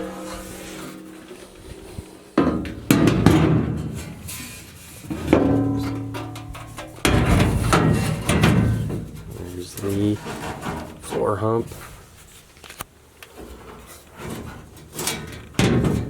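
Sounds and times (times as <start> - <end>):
sheet metal panel clanking: 0.0 - 11.9, 13.4 - 16.0.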